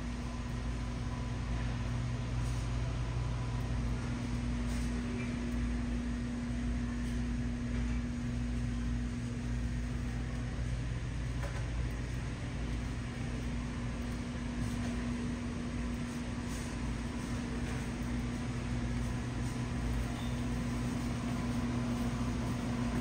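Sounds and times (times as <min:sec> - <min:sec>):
refrigeration machinery hum: 0:00.0 - 0:23.0
ventilation air hiss: 0:00.0 - 0:23.0.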